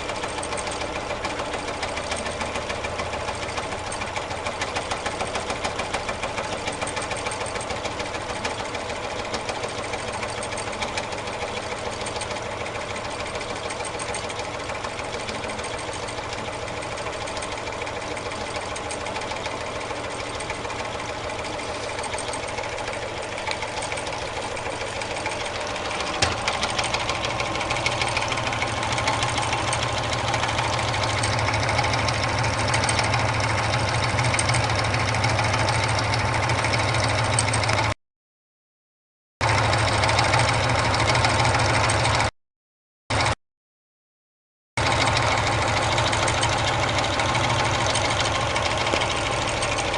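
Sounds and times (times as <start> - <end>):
engine mechanical clatter: 0.0 - 38.0, 39.4 - 42.3, 43.1 - 43.4, 44.8 - 49.9.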